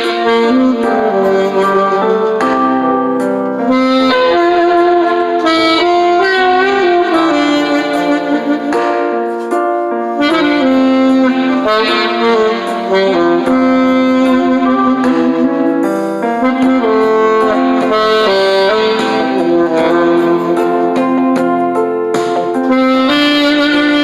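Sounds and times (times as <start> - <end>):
musical accompaniment: 0.0 - 24.0
saxophone melody: 0.0 - 24.0.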